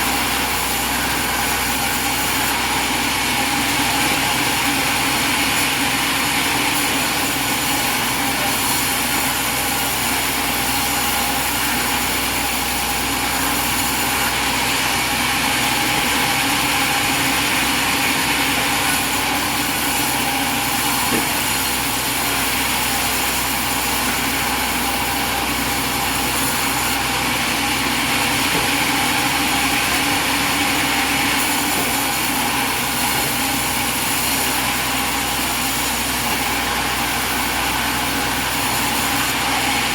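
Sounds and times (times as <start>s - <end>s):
small sawmill engine running: 0.0s - 39.9s.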